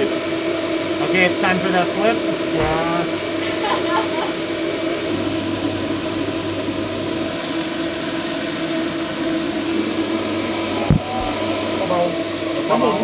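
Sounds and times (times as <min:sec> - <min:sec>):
patty sizzling on griddle: 0:00.0 - 0:12.1
steady machine hum: 0:00.0 - 0:13.0.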